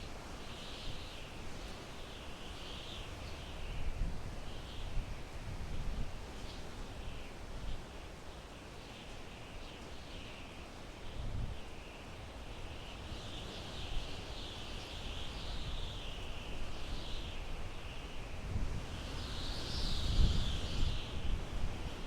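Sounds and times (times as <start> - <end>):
wind through pine trees: 0.0 - 22.0.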